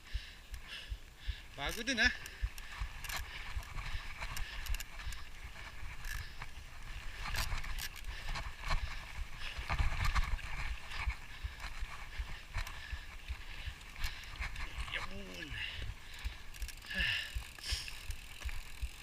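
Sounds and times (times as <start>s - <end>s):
mountain bike rattling and clicking: 0.0s - 19.0s.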